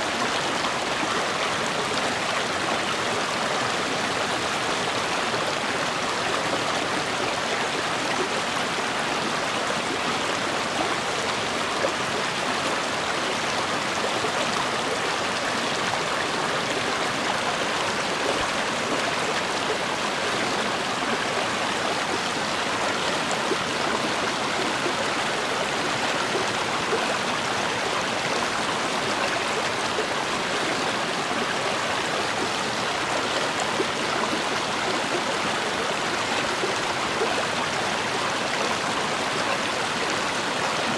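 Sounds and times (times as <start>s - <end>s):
water flowing over rocks: 0.0s - 40.9s.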